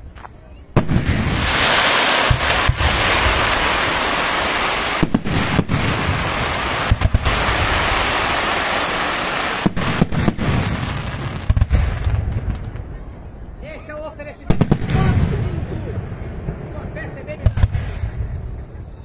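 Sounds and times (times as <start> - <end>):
fireworks crackling and banging: 0.2 - 19.0.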